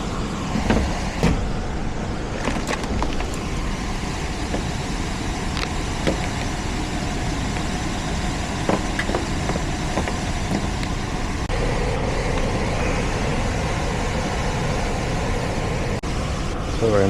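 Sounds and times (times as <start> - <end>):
deeper hum: 0.0 - 17.0
heat pump whooshing hum: 0.0 - 17.0.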